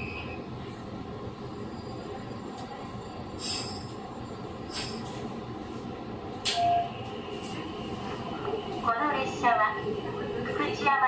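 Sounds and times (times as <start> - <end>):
train wheels rumbling on rail: 0.0 - 10.9.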